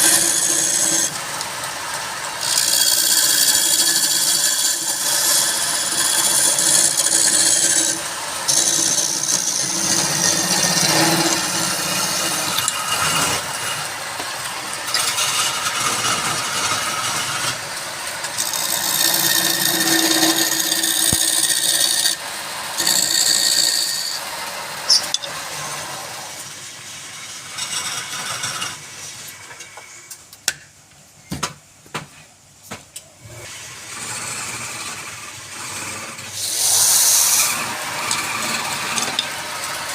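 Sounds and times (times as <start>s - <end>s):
turning tool cutting wood: 0.0s - 26.4s, 33.3s - 39.9s
wood lathe running: 0.0s - 26.4s, 33.7s - 39.9s.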